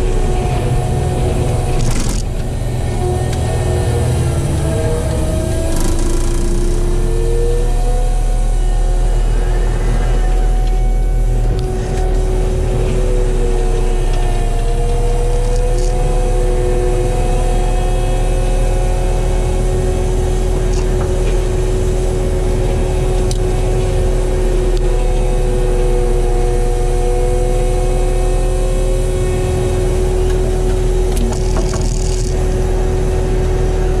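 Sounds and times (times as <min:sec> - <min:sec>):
diesel engine running under load: 0:00.0 - 0:34.0
steady mechanical whine: 0:00.0 - 0:34.0.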